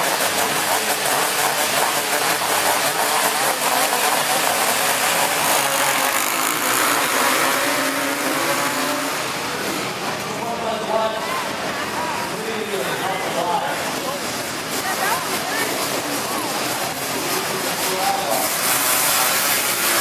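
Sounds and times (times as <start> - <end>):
racing three-wheeler engines: 0.0 - 20.0.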